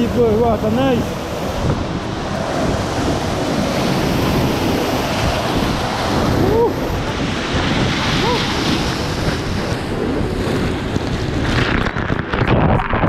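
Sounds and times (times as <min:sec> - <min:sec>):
water rushing: 0:00.0 - 0:13.0
wind buffeting microphone: 0:00.0 - 0:13.0.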